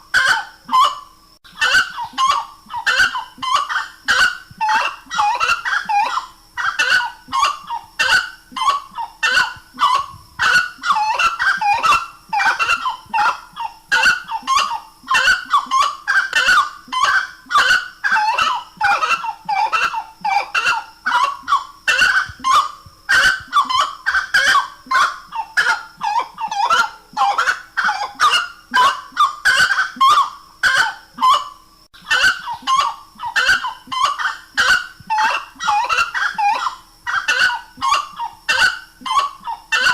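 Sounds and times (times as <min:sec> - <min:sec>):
bird honking calls: 0:00.1 - 0:39.9.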